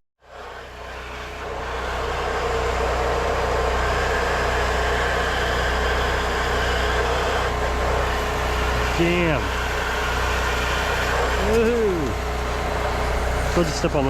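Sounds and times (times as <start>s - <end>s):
engine droning: 0.2s - 14.0s.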